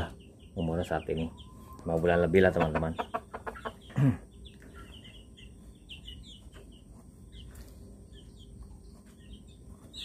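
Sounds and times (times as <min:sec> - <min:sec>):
high-pitched bird chirps: 0:00.0 - 0:02.1, 0:02.7 - 0:10.0
low background hum: 0:00.0 - 0:10.0.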